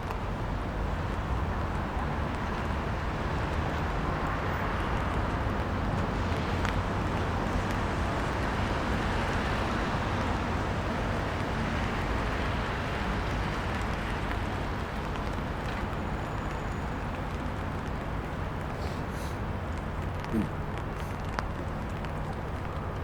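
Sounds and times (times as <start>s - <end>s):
city low rumble: 0.0s - 23.0s.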